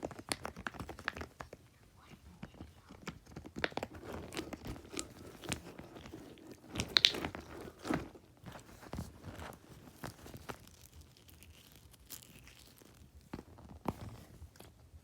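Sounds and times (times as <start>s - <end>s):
fidget toys crunching and clicking: 0.0s - 1.7s, 2.3s - 14.7s.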